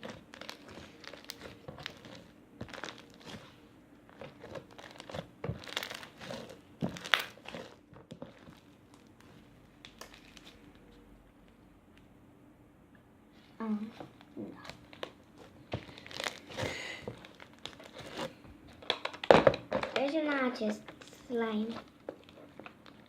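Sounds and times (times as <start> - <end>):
foam bead slime crackling: 0.0 - 11.6, 13.6 - 23.0.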